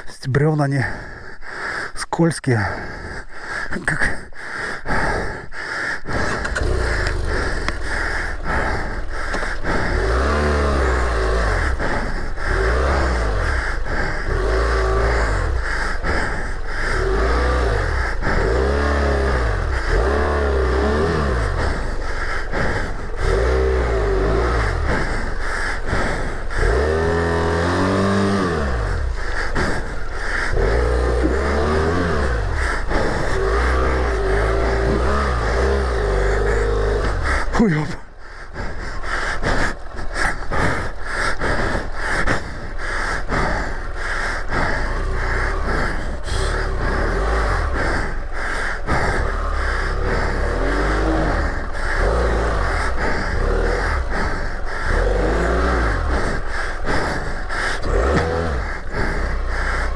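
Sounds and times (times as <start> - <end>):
motorcycle engine revving: 2.7 - 59.9.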